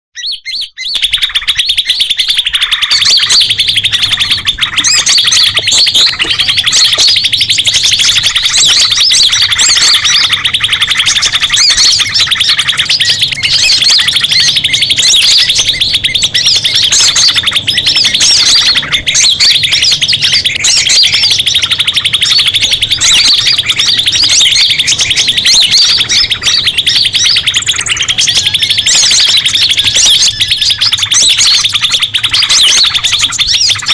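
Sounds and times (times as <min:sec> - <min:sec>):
forest birds chirping: 0:00.2 - 0:33.9.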